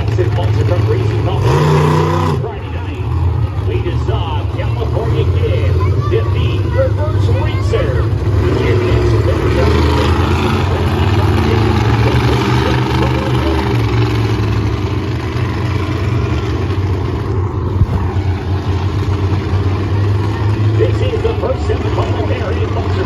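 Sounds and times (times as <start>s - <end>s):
monster truck engines rumbling: 0.0s - 23.0s.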